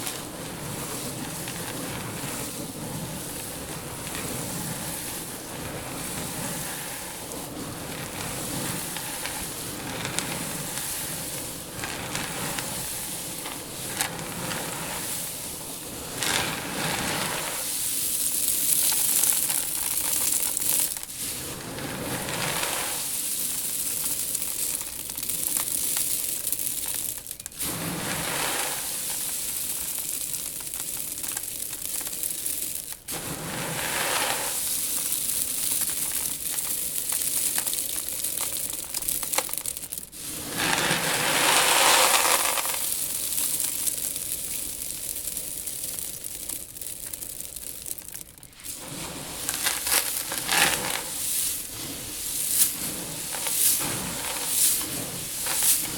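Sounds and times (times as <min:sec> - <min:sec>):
seed rustling in a tank: 0:00.0 - 0:55.9.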